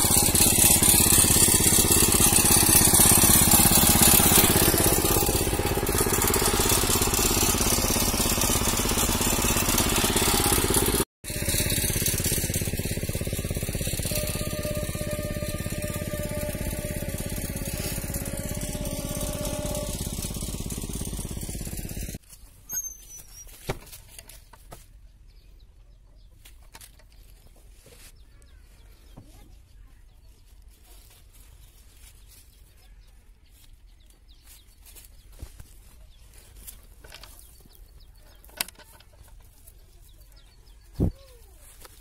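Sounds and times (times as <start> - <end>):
small engine running: 0.0 - 23.5, 31.0 - 42.0.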